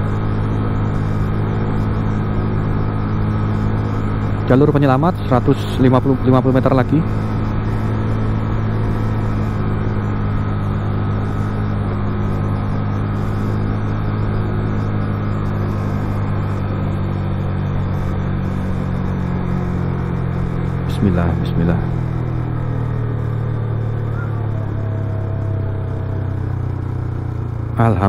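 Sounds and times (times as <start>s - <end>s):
motorcycle engine running: 0.0s - 28.0s
road and wind noise: 0.0s - 28.0s.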